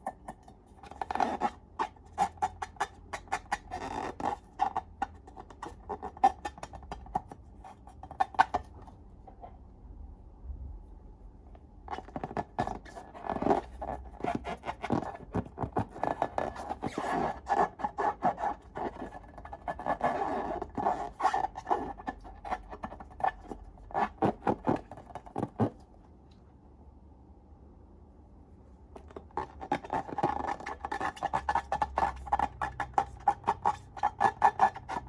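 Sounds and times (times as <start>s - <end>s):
slime clicking and scraping in bowl: 0.0s - 8.8s, 11.9s - 25.8s, 29.0s - 35.0s.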